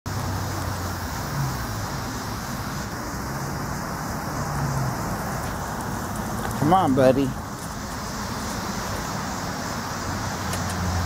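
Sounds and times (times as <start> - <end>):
road traffic rush: 0.0 - 11.0
low engine hum: 0.1 - 11.0.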